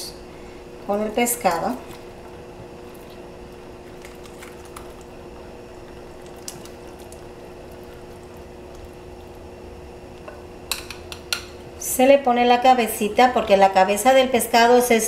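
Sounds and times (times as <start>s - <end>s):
broth boiling in a pot: 0.0s - 15.0s.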